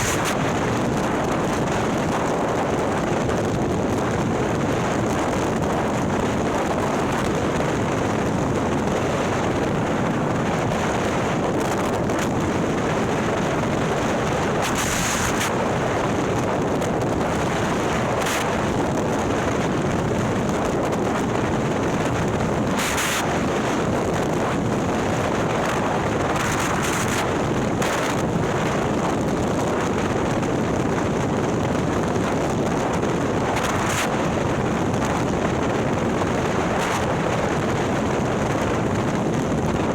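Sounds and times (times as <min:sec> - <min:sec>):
wind buffeting on microphone: 0:00.0 - 0:39.9.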